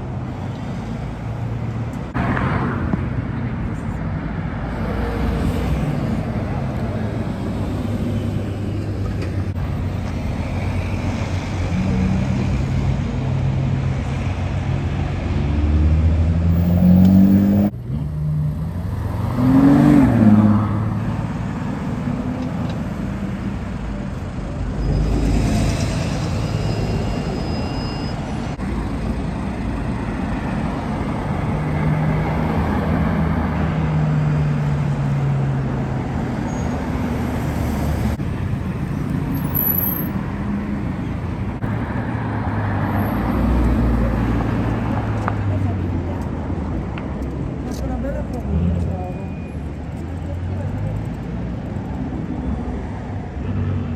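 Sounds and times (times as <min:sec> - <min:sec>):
traffic: 0:00.0 - 0:53.9.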